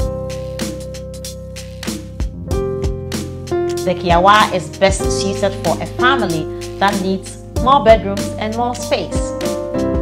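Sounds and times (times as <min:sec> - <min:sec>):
instrumental music with held notes: 0:00.0 - 0:10.0.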